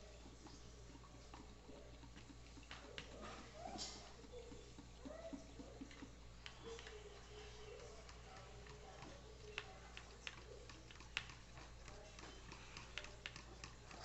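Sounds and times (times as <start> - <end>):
faint voices: 0.0 - 14.0
light clicks and taps: 0.0 - 14.0.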